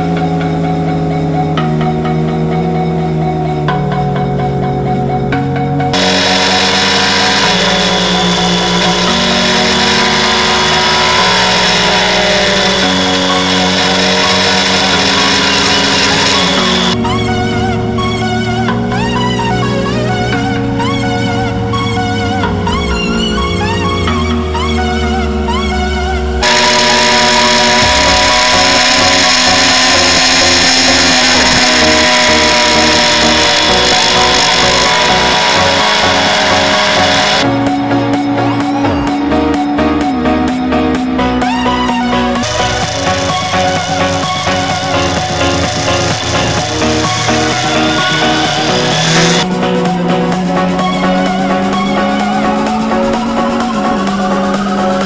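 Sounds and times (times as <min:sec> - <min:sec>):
background music: 0:00.0 - 0:55.0
motorcycle engine: 0:00.0 - 0:55.0.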